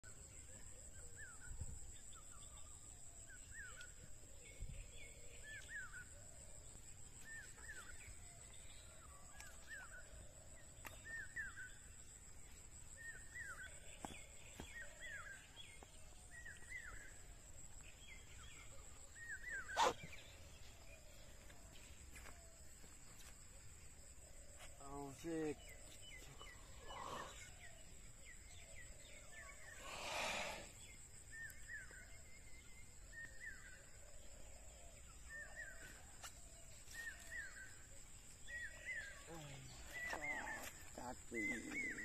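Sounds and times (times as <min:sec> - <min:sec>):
bird chirping: 0:00.0 - 0:42.0.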